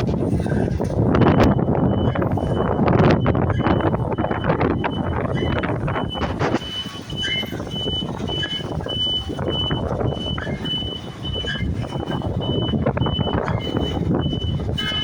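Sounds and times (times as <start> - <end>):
heavy diesel machinery rumbling: 0.0 - 15.0
reversing alarm beeping: 0.2 - 15.0.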